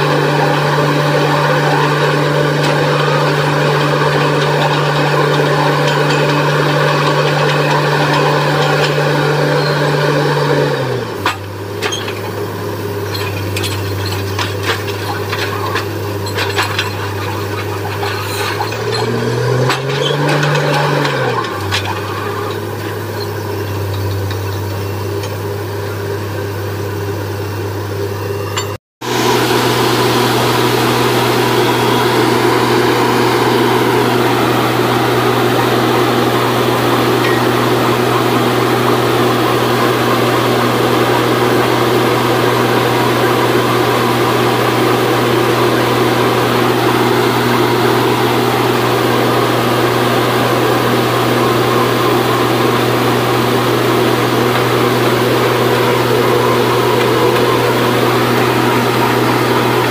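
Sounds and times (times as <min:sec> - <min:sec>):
drilling rig engine running: 0:00.0 - 0:59.9.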